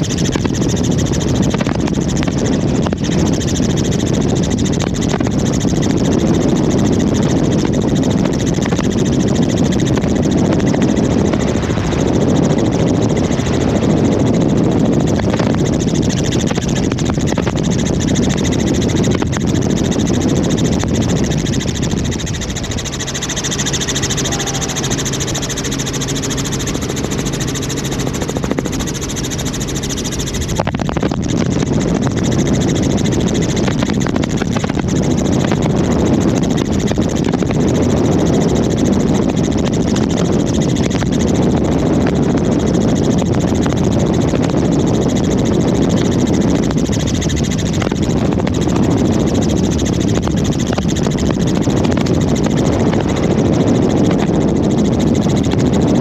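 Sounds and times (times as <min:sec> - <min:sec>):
helicopter engine and rotor noise: 0:00.0 - 0:56.0.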